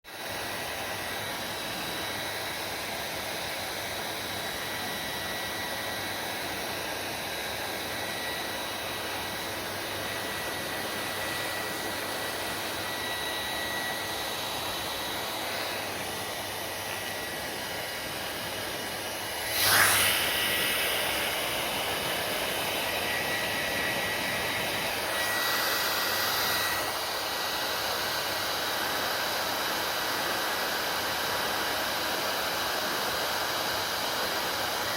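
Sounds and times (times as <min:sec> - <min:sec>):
hair dryer running: 0:00.1 - 0:34.9
hair dryer gust: 0:00.2 - 0:34.9.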